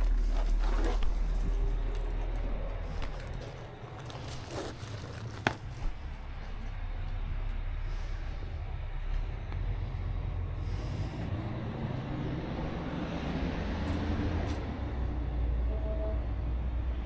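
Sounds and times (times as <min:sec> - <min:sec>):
pressure washer engine rumble: 0:00.0 - 0:13.8.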